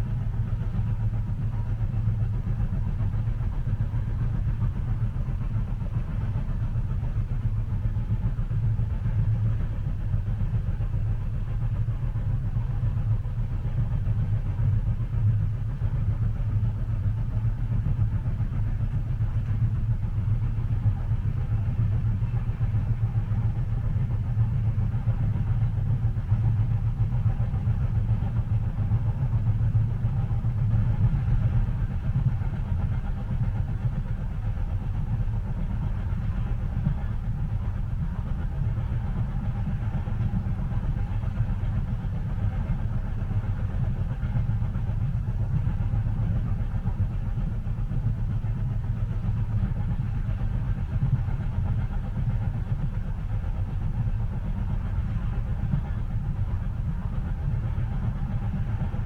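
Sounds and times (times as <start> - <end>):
train rumbling inside car: 0.0 - 59.0.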